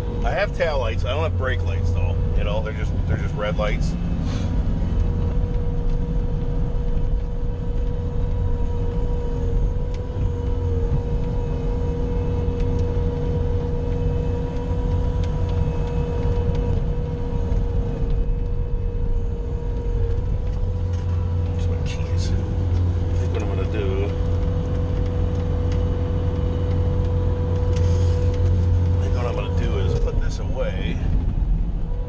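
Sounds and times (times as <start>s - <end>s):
high whine: 0.0s - 32.0s
loader engine rumbling: 0.0s - 32.0s.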